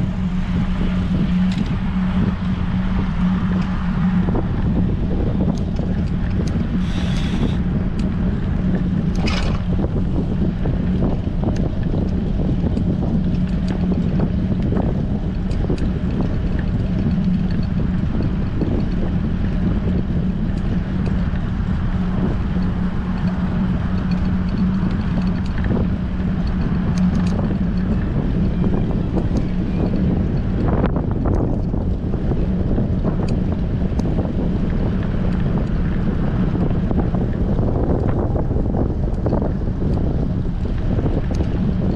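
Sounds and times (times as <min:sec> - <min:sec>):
low hum: 0:00.0 - 0:41.9
wind buffeting microphone: 0:00.0 - 0:41.9.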